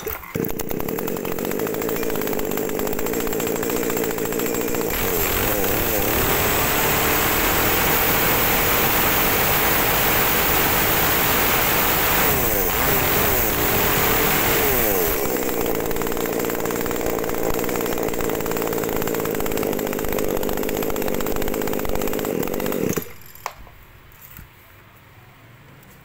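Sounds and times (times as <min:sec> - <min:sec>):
chainsaw running: 0:00.0 - 0:23.6.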